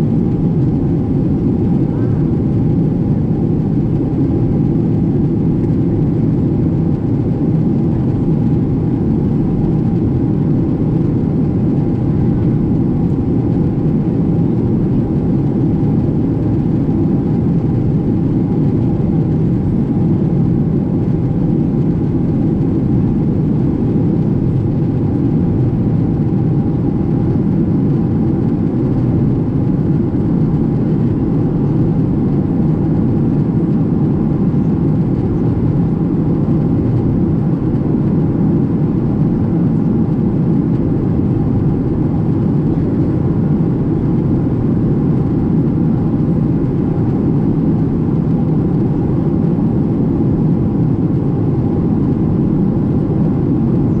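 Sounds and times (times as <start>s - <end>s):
airliner engines and rushing air: 0.0s - 54.0s.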